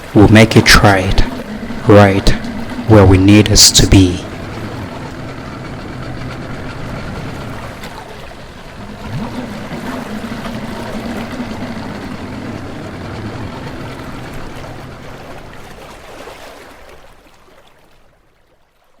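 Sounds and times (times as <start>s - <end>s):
motorboat engine running: 0.0s - 18.2s
rushing water: 0.0s - 19.0s.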